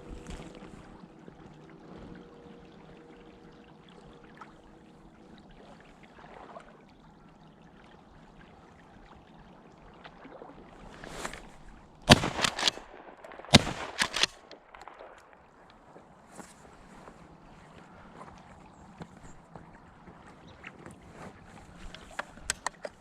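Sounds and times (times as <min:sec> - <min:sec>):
faint steady hum: 0:00.0 - 0:20.6
water trickling and lapping: 0:00.0 - 0:23.0.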